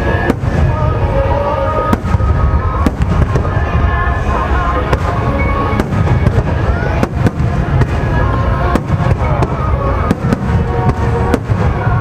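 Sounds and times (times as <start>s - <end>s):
fireworks bangs: 0.0s - 12.0s
music playing: 0.0s - 12.0s.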